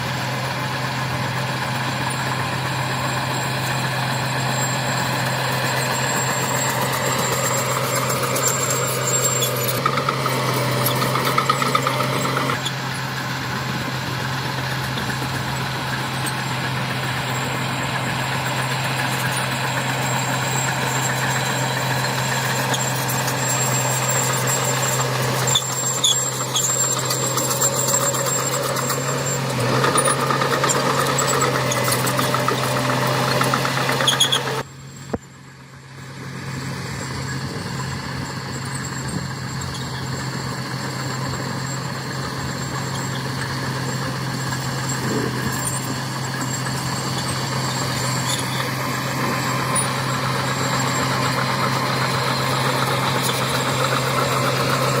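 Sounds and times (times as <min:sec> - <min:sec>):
heavy machinery diesel engine droning: 0:00.0 - 0:55.0.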